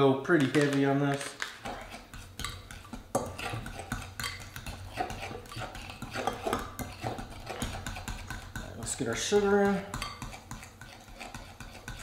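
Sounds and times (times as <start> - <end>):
utensil stirring in glass bowl: 1.2 - 12.0.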